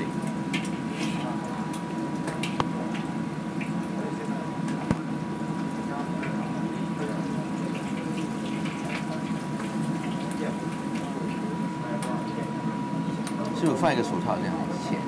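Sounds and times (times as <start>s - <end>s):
meat deep-frying in hot oil: 0.0s - 15.0s.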